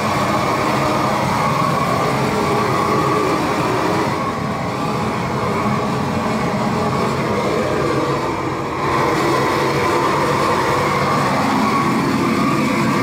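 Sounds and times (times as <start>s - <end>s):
propane torch burning: 0.0s - 13.0s.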